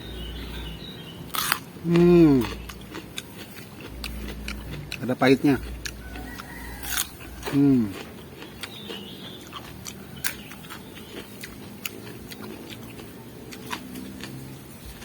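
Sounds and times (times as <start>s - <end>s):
chewing crunchy raw vegetables: 0.2s - 15.0s.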